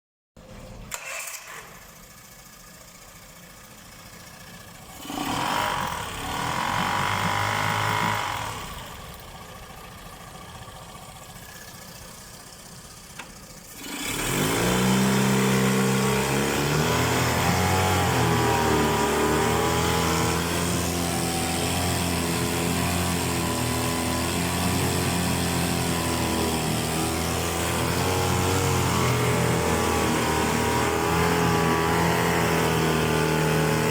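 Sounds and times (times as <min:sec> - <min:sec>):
outboard motor starting and running: 0:00.4 - 0:33.9.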